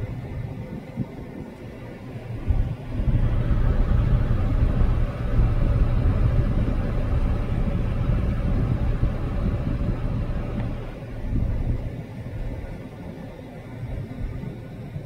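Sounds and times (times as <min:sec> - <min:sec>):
car rumble inside cabin: 0:00.0 - 0:15.0.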